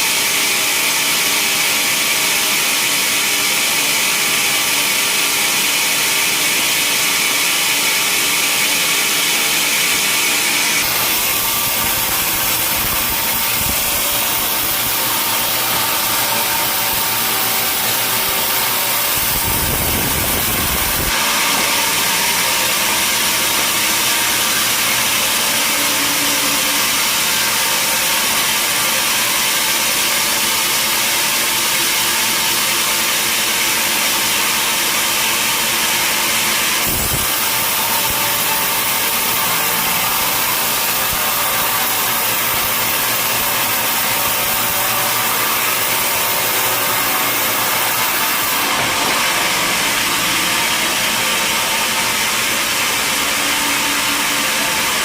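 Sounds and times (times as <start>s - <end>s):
machine hum: 3.6s - 55.0s
saw hissing through log: 7.9s - 55.0s.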